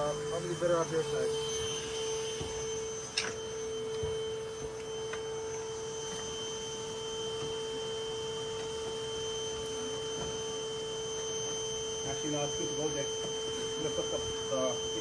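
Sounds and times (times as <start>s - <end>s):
high-pitched hum: 0.0s - 15.0s.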